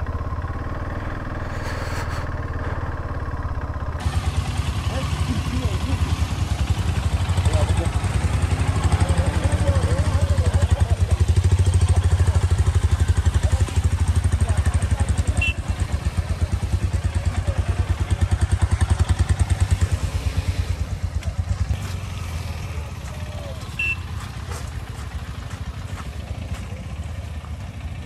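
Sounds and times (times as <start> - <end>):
motorcycle engine at low revs: 0.0 - 28.0.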